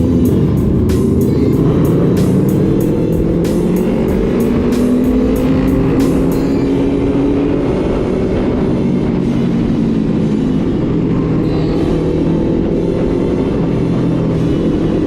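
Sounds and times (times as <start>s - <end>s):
background music: 0.0s - 15.0s
motorcycle engine running: 0.0s - 15.0s
sharp ticking: 0.0s - 15.0s.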